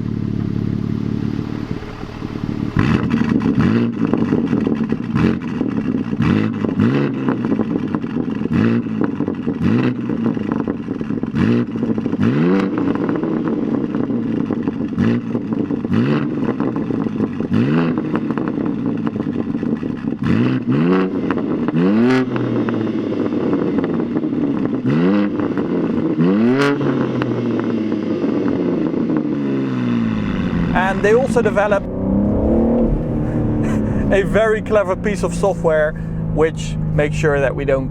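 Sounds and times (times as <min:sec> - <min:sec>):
car engine throttle blips: 0:00.0 - 0:27.6, 0:29.8 - 0:37.9
exhaust crack: 0:00.0 - 0:27.6, 0:29.8 - 0:37.9.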